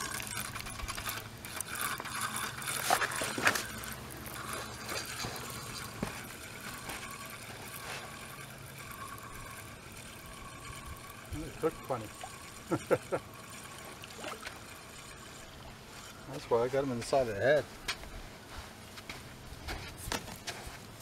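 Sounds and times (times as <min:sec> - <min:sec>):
fishing reel ticking: 0:00.0 - 0:17.5.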